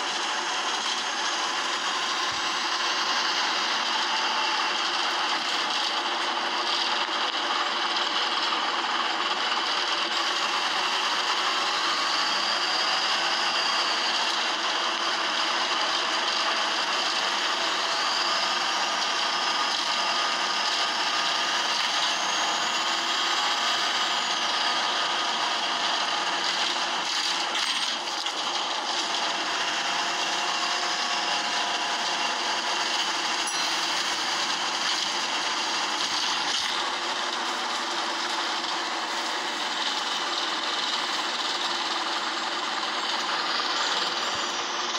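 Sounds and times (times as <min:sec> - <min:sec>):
bus engine running: 0:00.0 - 0:44.9
faint whines: 0:00.0 - 0:44.9.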